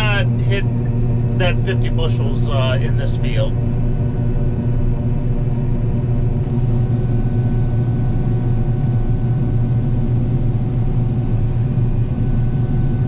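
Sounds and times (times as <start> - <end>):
combine harvester engine drone: 0.0 - 13.0
steady machine whining tones: 0.0 - 13.0.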